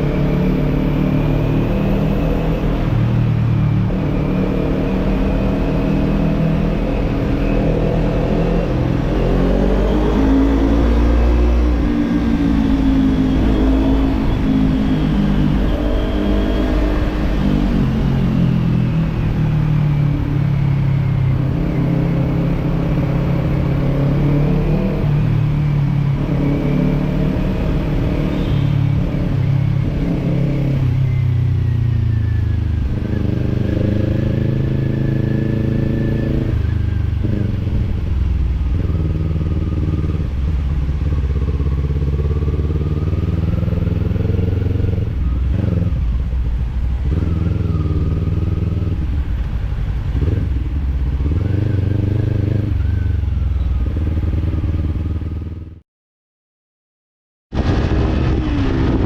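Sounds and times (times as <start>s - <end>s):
motorcycle engine revving: 0.0s - 55.8s, 57.6s - 59.0s.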